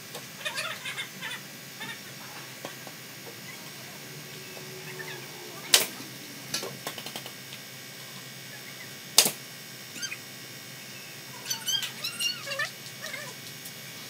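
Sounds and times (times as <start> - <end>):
workshop background hum: 0.0 - 14.0
pitch-bending animal calls: 0.4 - 9.0, 9.9 - 13.4.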